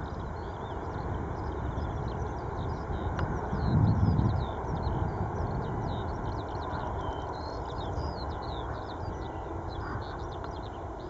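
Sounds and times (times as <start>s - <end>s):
distant jet engines rumbling: 0.0s - 11.0s
small birds chirping: 0.0s - 11.0s.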